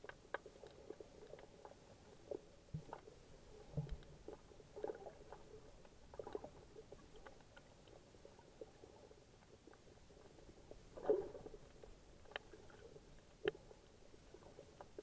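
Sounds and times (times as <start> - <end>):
soft underwater crackles and clicks: 0.0 - 15.0.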